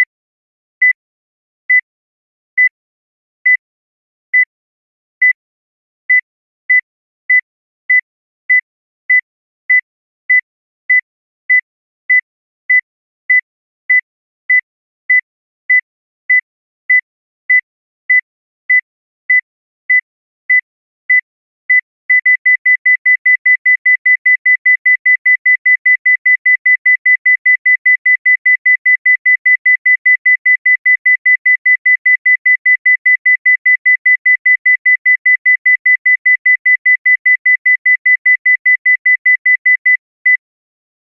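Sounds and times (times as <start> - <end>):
heart monitor beeping: 6.1 - 40.4.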